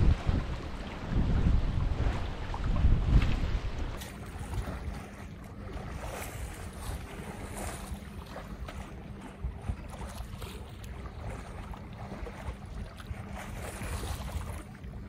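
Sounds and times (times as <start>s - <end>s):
water splashing along hull: 0.0s - 15.0s
wind on microphone: 0.0s - 15.0s.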